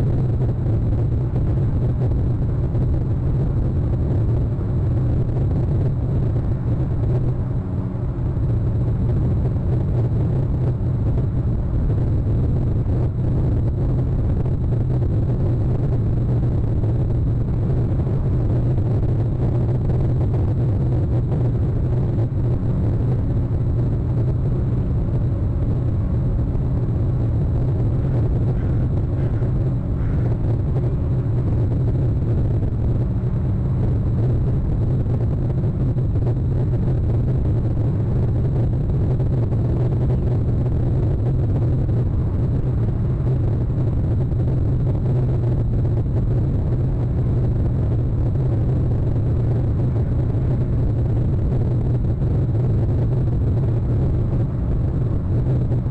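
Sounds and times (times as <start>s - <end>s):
steady low rumble: 0.0s - 55.9s.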